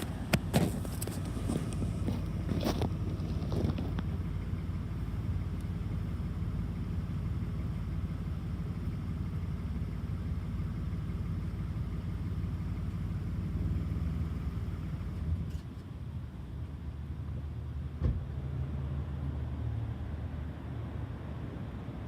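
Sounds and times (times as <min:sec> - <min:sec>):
car engine idling: 0:00.0 - 0:19.3.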